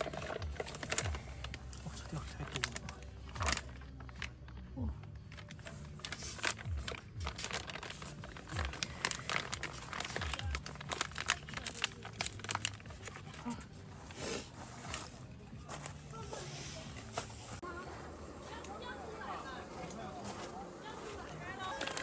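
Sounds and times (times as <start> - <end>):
crinkling: 0.0 - 22.0.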